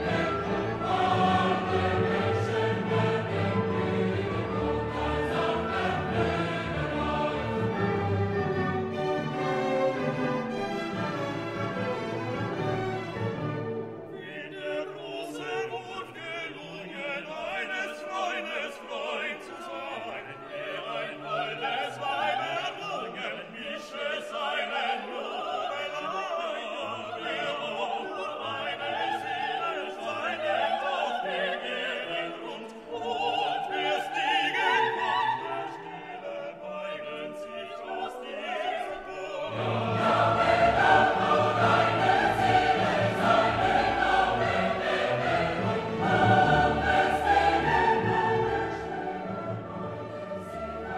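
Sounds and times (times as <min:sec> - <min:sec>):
orchestra with operatic singing: 0:00.0 - 0:50.9.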